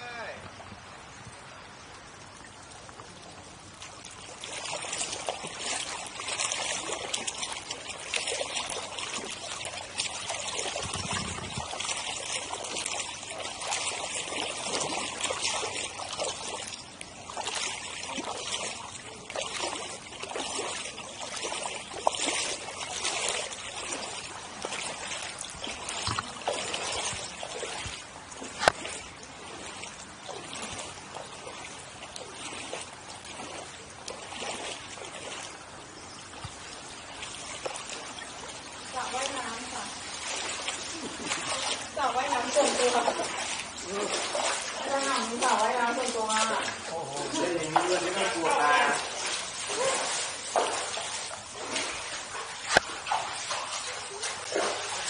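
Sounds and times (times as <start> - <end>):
floodwater splashing and trickling: 0.0 - 55.0.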